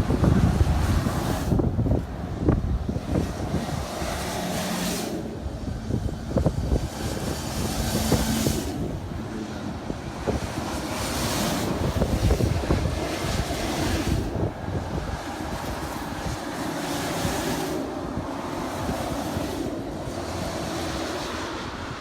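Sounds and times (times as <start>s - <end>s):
road traffic rumble: 0.0s - 22.0s
vehicles rushing past: 0.0s - 22.0s
wind buffeting microphone: 0.0s - 22.0s.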